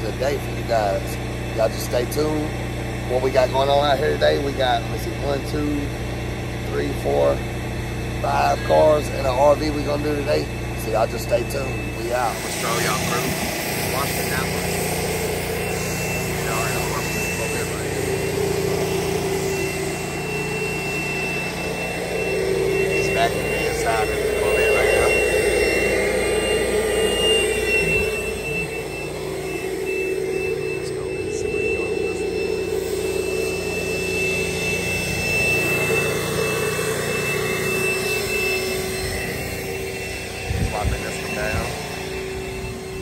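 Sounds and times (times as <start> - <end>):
motor running steadily: 0.0 - 43.0.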